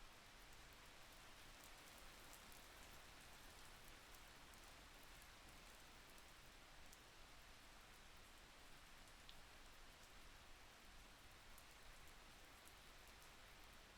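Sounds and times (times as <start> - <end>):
faint steady rain: 0.0 - 13.9.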